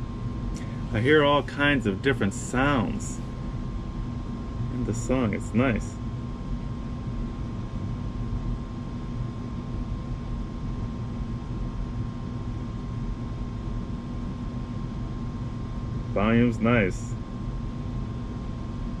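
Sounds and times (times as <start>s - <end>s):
faint constant tone: 0.0s - 19.0s
furnace hum and air rush: 0.0s - 19.0s.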